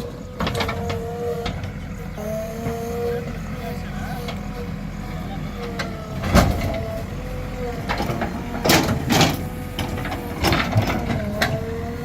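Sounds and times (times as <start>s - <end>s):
diesel engine running: 0.0s - 12.0s
hydraulic whine: 0.0s - 12.0s.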